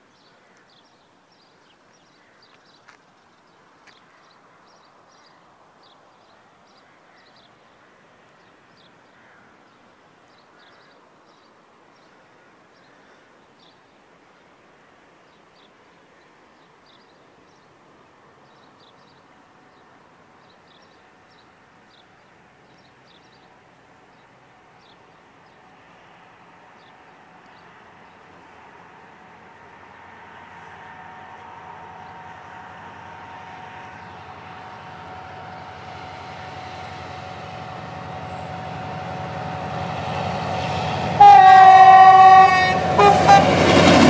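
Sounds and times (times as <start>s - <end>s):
background hiss: 0.0s - 41.0s.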